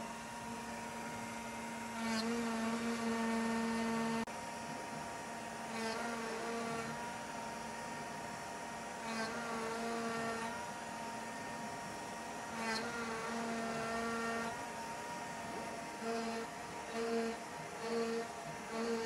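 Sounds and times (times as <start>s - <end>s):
router carving wood: 0.0s - 19.0s.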